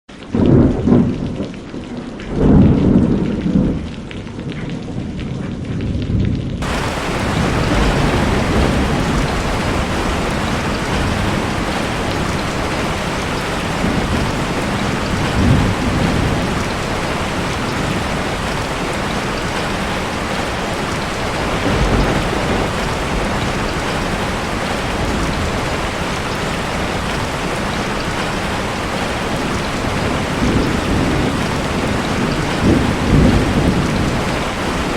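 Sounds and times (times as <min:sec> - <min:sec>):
thunder rolling: 0:00.4 - 0:01.6, 0:02.2 - 0:34.9
heavy rain hiss: 0:06.6 - 0:34.9.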